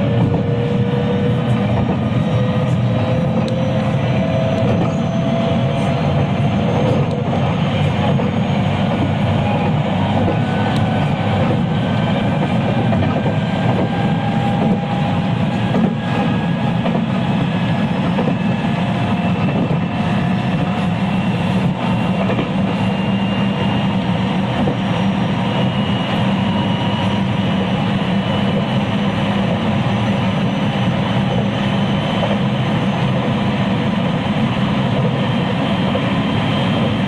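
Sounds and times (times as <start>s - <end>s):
train traction motors whining: 0.0s - 37.0s
wheels rumbling on rail: 0.0s - 37.0s.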